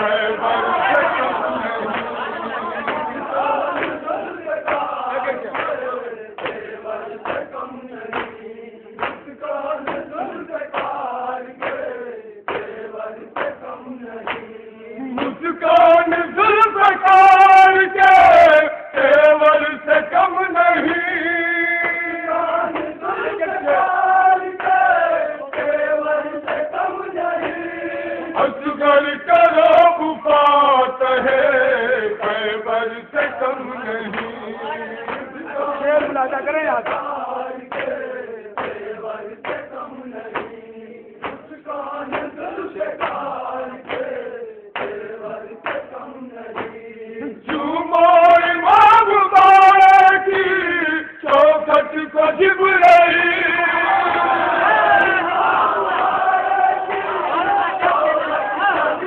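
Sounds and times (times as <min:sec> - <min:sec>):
men chanting a lament: 0:00.0 - 0:59.0.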